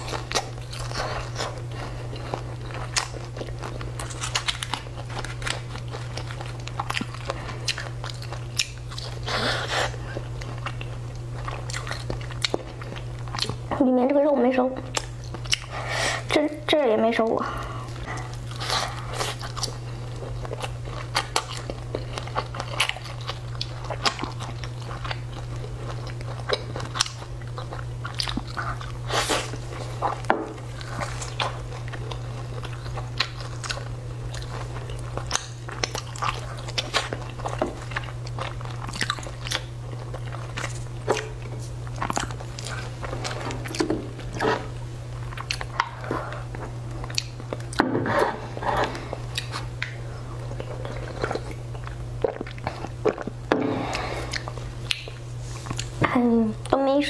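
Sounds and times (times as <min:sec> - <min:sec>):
person chewing a burger: 0:00.0 - 0:13.7, 0:14.8 - 0:16.3, 0:17.6 - 0:56.0
steady low hum: 0:00.0 - 0:57.0.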